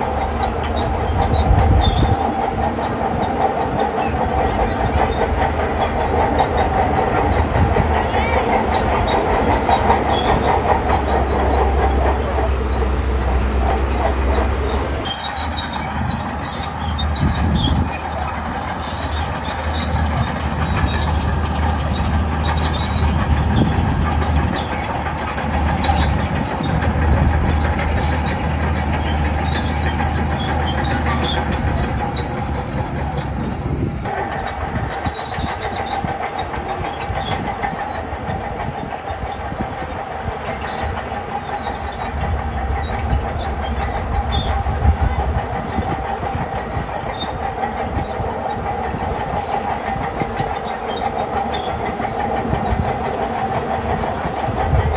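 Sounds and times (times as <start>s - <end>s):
diesel engine under load: 0.0s - 54.9s
steel tracks clanking and squealing: 0.0s - 54.9s.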